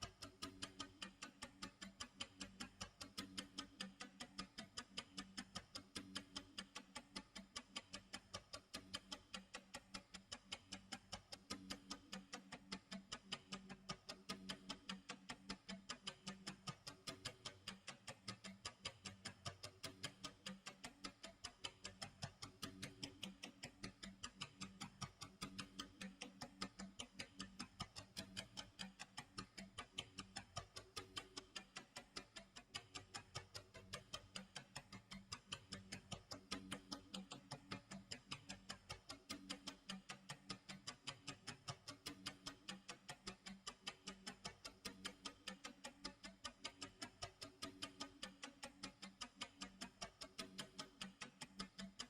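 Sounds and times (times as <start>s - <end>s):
clock ticking: 0.0s - 52.0s.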